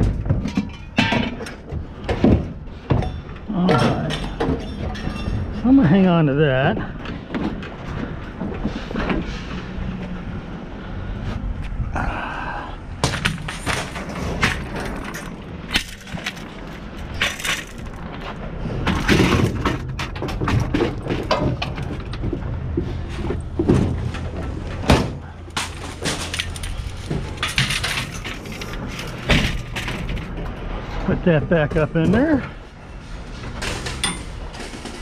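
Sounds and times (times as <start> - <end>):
scrap metal clanking and crashing: 0.0 - 10.4, 13.0 - 35.0
steady low rumble: 0.0 - 33.4.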